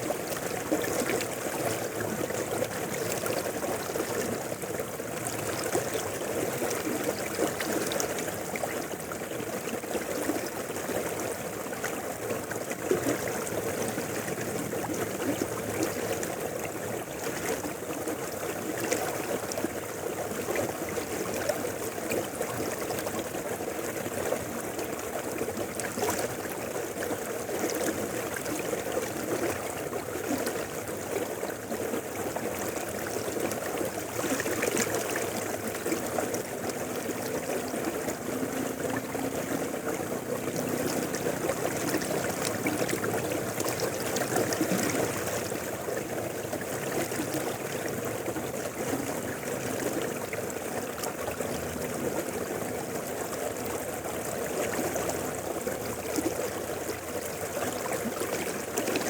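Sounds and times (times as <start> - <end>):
river water rushing: 0.0 - 59.0
small water splashes: 0.0 - 59.0.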